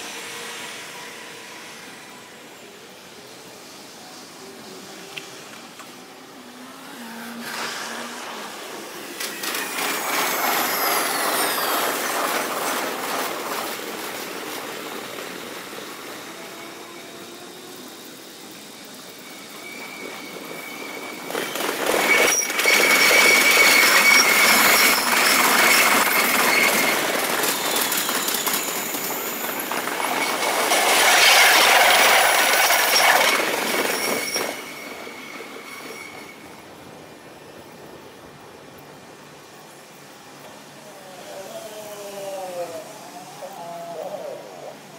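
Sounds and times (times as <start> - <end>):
sped-up electric trains passing: 0.0 - 44.9.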